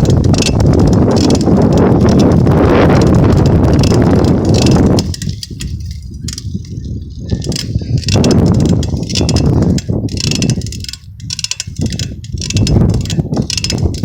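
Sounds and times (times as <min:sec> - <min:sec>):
bicycle freewheel ticking: 0:00.0 - 0:06.8, 0:07.4 - 0:14.0
wind rumbling on microphone: 0:00.0 - 0:14.0.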